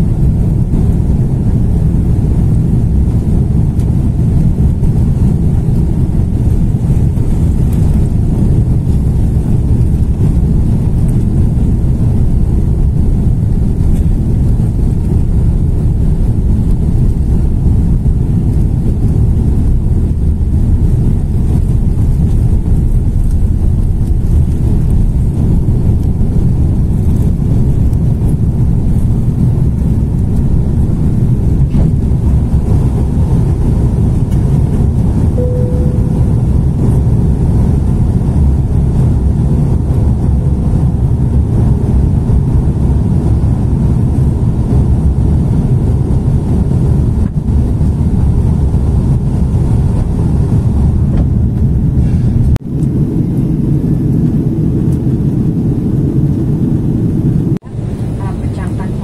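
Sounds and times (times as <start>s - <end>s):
jet engines deep rumble in cabin: 0.0s - 59.0s.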